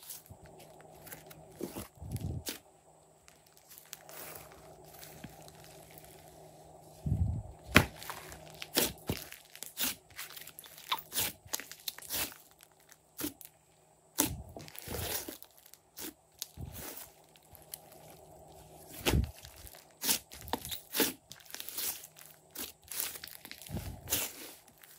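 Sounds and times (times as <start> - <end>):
slime squelching: 3.2 - 6.7, 7.6 - 13.5, 14.2 - 24.9.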